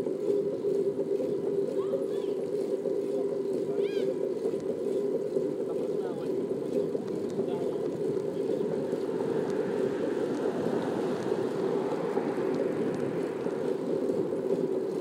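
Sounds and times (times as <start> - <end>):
bicycle tyres rolling on asphalt: 0.0 - 15.0.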